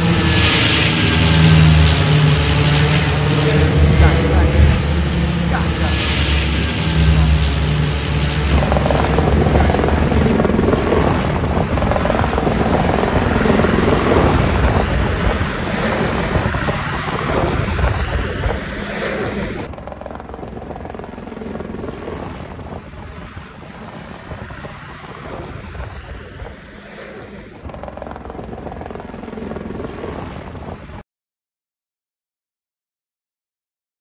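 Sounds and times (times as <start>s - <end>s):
helicopter rotor and engine: 0.0s - 31.0s.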